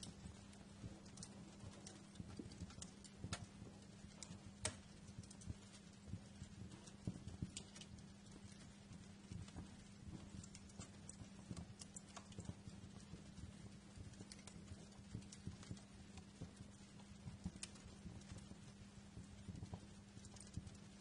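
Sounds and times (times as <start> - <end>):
low steady hum: 0.0 - 21.0
wood fire crackling: 0.0 - 21.0.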